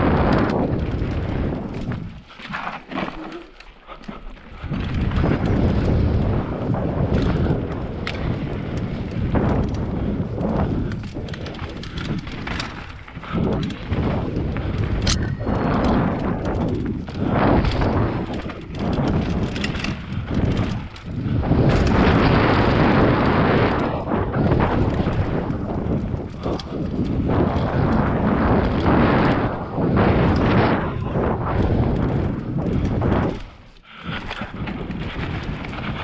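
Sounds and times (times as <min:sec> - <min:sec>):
wind rushing on microphone: 0:00.0 - 0:03.4, 0:04.1 - 0:36.0
bike knocks and rattles: 0:00.0 - 0:36.0
tyres rolling on packed dirt: 0:00.0 - 0:36.0.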